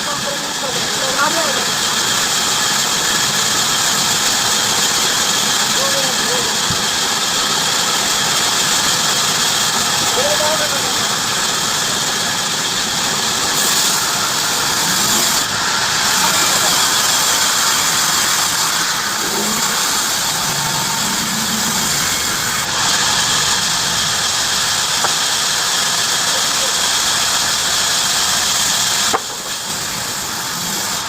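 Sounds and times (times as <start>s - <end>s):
bandsaw cutting wood: 0.0s - 31.0s.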